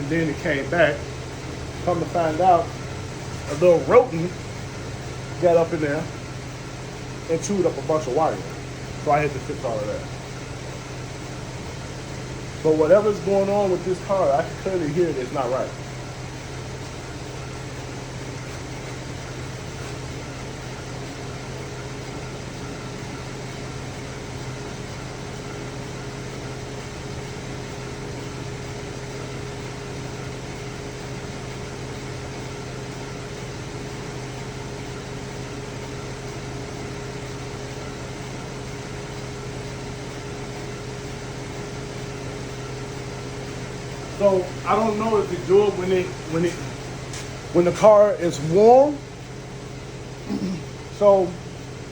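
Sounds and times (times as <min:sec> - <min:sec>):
car engine idling: 0:00.0 - 0:51.9
faint steady whine: 0:00.0 - 0:51.9.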